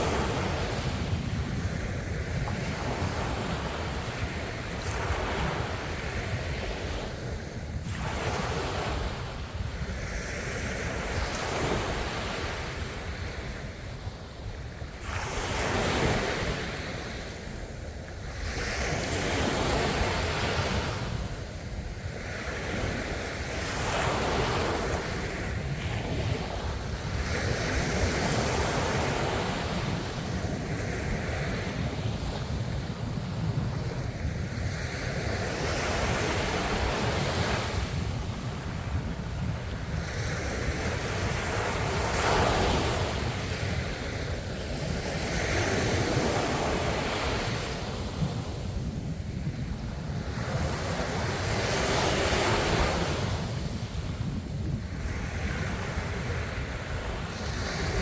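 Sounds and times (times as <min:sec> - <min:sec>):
ocean waves washing ashore: 0:00.0 - 0:58.0.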